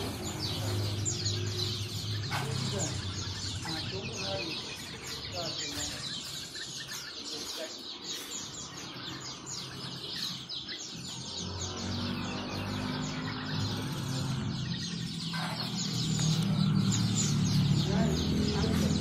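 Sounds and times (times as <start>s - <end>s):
many birds chirping: 0.0s - 19.0s.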